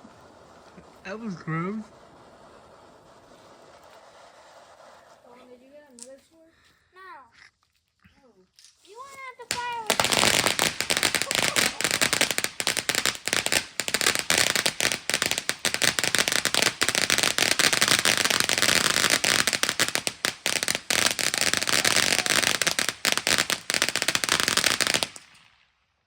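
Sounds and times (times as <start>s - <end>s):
fireworks crackling: 0.0s - 6.5s, 8.6s - 25.8s.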